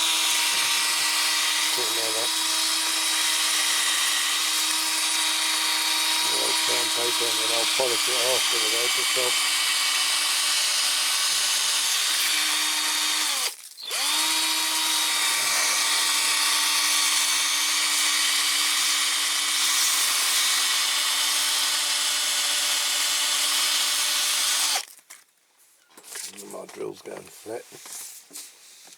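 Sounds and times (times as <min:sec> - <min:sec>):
cordless drill motor whine: 0:00.0 - 0:24.8.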